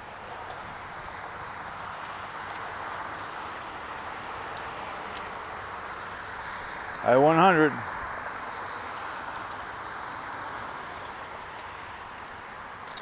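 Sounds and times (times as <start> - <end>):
highway traffic rushing: 2.3 - 12.8.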